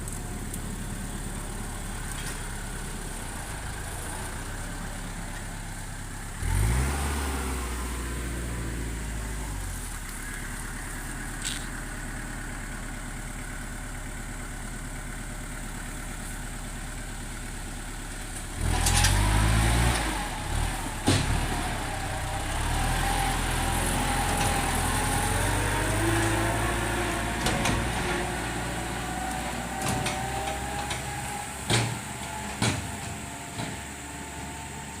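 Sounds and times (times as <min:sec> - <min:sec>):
tractor engine revving: 0:00.0 - 0:35.0.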